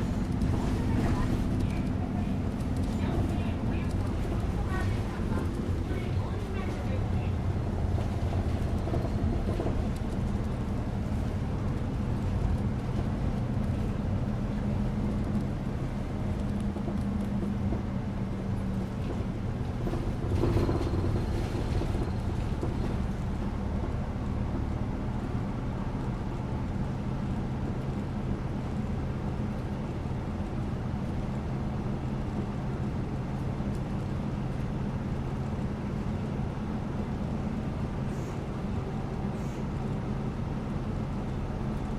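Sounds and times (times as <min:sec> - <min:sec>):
bus engine hum and road rumble: 0:00.0 - 0:41.9.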